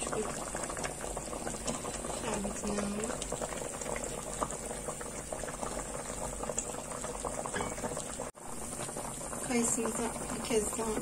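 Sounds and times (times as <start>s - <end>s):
jam boiling and popping: 0.0s - 11.0s.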